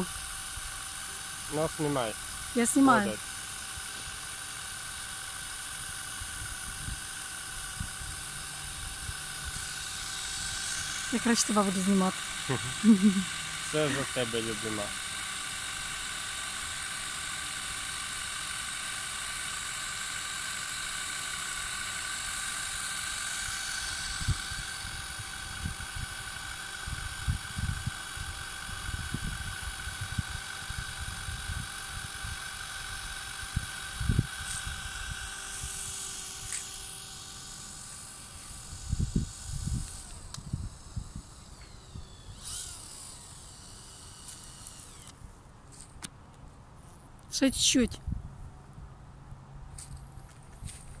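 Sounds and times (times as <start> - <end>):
small motor whine: 0.0 - 51.0.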